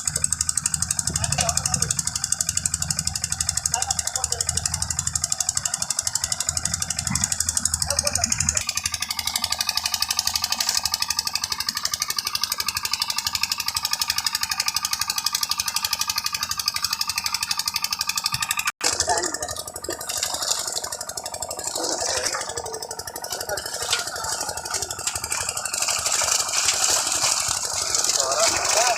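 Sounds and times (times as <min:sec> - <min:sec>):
engine with irregular clanks: 0:00.0 - 0:28.9
machinery rattling pulse: 0:00.0 - 0:28.9.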